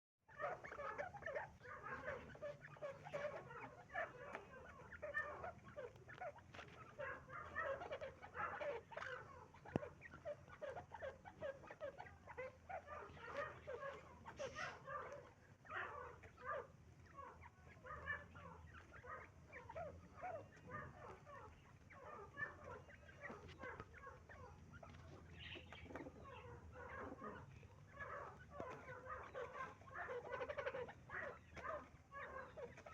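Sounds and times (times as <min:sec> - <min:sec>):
partridges chirping and clucking: 0:00.3 - 0:32.9.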